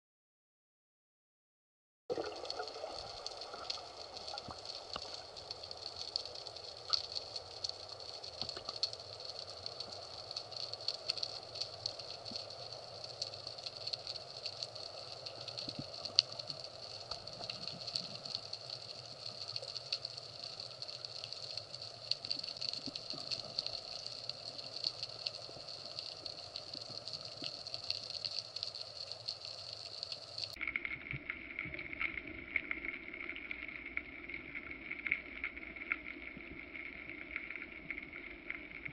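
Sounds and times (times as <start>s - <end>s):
small clicks and crackles: 2.1s - 38.9s.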